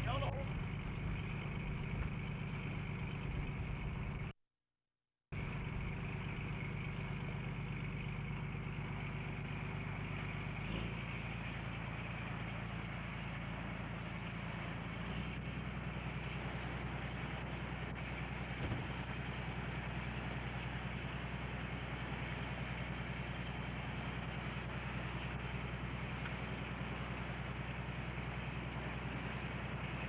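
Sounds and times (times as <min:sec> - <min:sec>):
boat engine humming: 0:00.0 - 0:04.3, 0:05.4 - 0:30.0.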